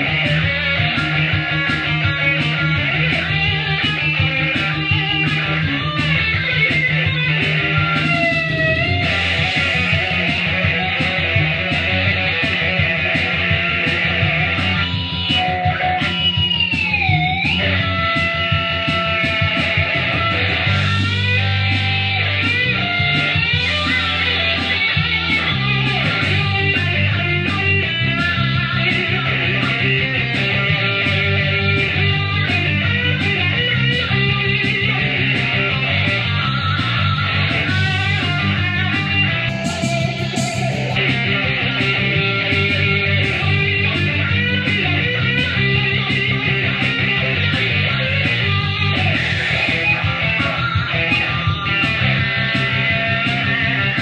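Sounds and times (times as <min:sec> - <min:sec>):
bass line: 0:00.0 - 0:54.0
electric guitar lead: 0:00.0 - 0:54.0
ticking beat: 0:00.0 - 0:54.0.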